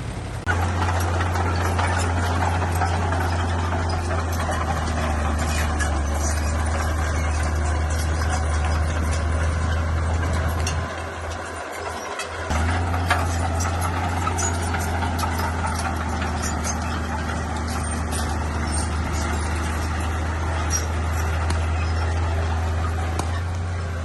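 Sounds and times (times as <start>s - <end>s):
bulldozer diesel engine drone: 0.0s - 24.0s
clanks and rattles: 0.4s - 24.0s.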